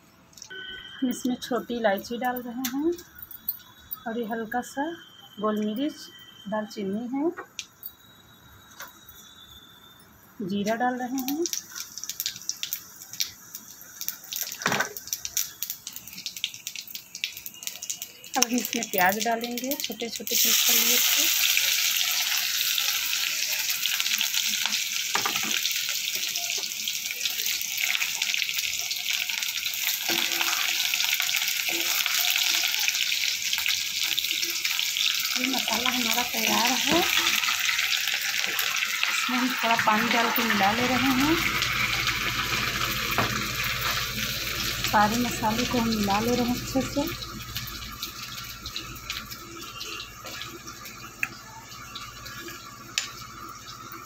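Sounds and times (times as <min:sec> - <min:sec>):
hot oil sizzling: 0:07.6 - 0:54.0.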